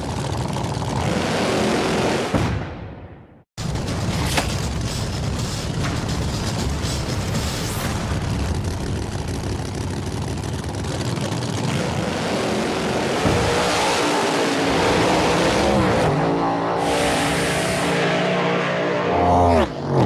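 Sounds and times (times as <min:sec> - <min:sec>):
racing car engines at full throttle: 0:00.0 - 0:02.4, 0:03.6 - 0:20.0.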